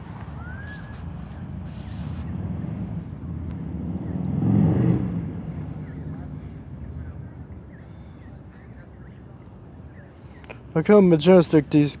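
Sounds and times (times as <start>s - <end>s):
passing road vehicle rumble: 0.0s - 12.0s.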